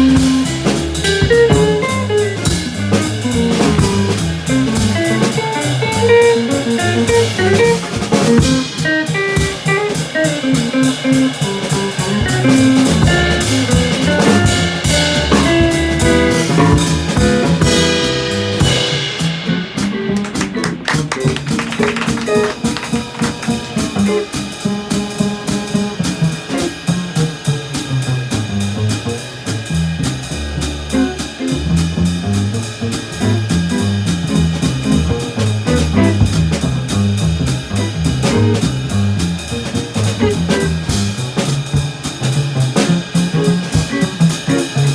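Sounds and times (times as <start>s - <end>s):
drum kit beat: 0.0s - 44.9s
jazz guitar: 0.0s - 44.9s.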